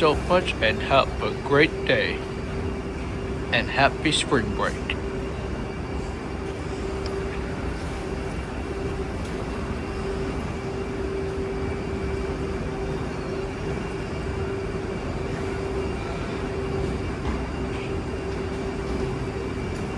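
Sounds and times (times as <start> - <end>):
constant hum: 0.0 - 19.9.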